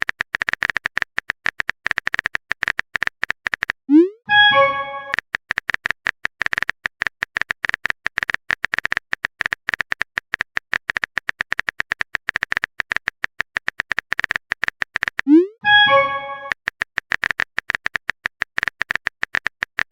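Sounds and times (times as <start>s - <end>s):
phone keyboard typing clicks: 0.0s - 19.9s.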